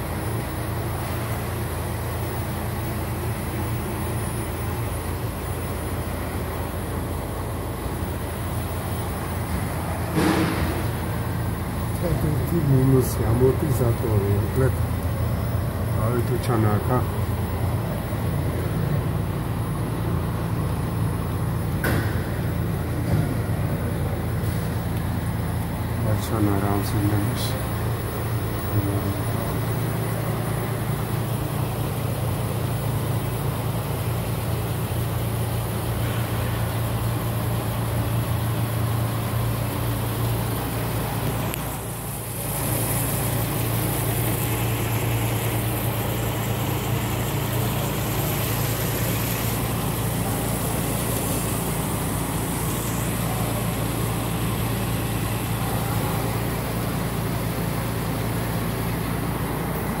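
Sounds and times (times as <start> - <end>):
low mechanical hum: 0.0 - 60.0.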